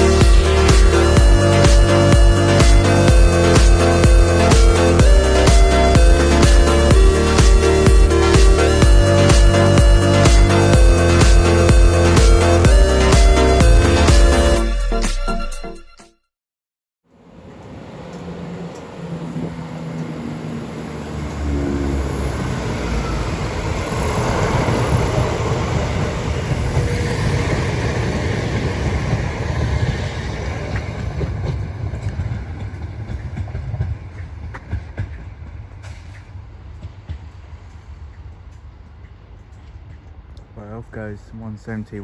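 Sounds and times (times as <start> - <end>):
train passing: 0.0 - 14.9, 17.1 - 42.0.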